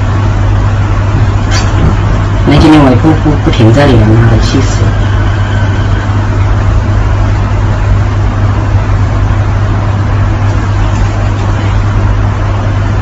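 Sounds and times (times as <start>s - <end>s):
loud low hum: 0.0s - 13.0s.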